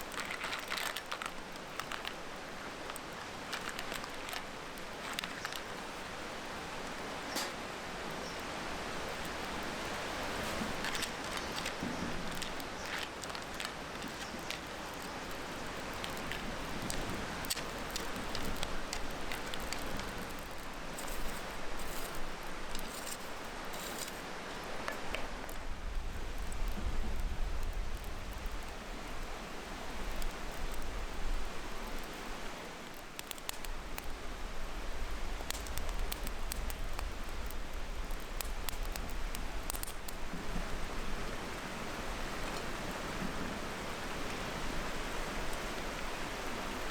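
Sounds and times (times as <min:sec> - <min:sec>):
wood fire crackling and popping: 0:00.0 - 0:41.6.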